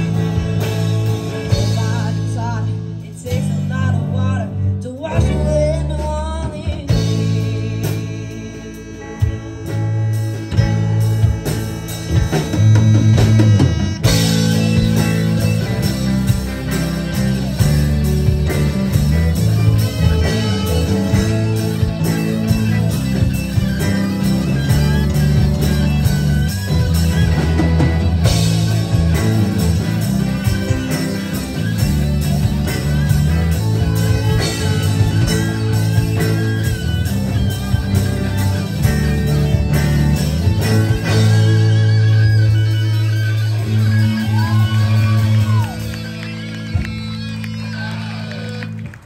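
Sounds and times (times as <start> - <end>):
rock band playing instrumental: 0.0 - 49.0
wavering lead guitar line: 0.0 - 49.0.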